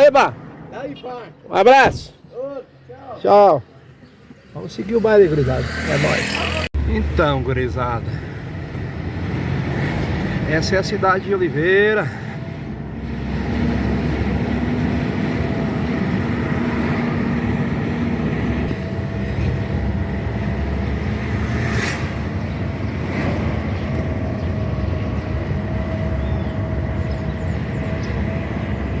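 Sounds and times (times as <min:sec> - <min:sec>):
car engine and road rumble: 0:00.0 - 0:29.0.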